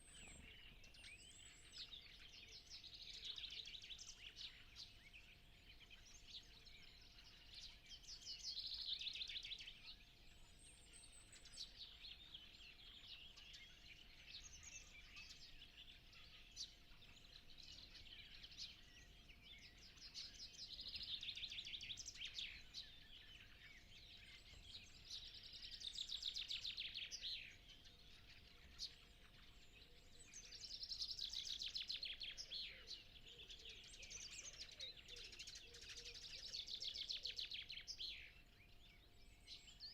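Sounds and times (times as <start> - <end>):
bird trilled song: 0.0 - 39.9.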